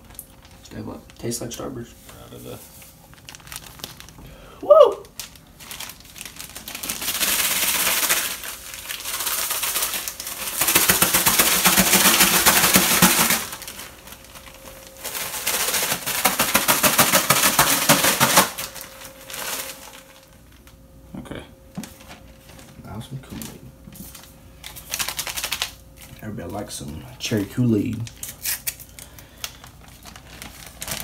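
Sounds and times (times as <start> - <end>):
plastic bag crinkling while shaken: 0.0 - 20.6, 21.8 - 31.0.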